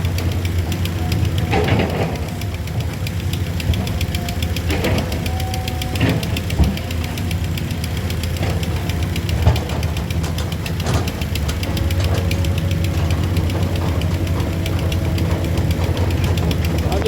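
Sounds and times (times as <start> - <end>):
engine running with knocking clatter: 0.0 - 17.0.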